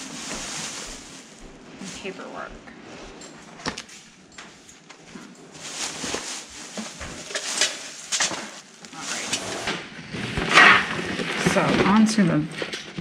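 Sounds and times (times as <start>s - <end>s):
plastic bag and papers rustling: 0.0s - 13.0s.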